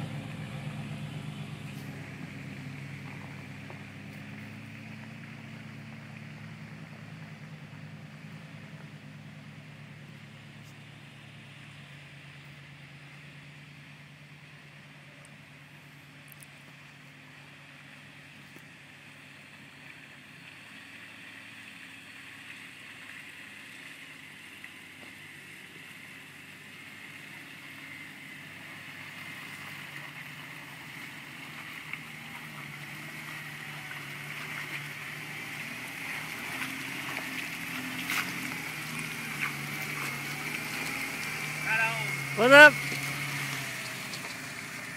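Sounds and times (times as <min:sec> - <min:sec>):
engine running at low revs: 0:00.0 - 0:44.9.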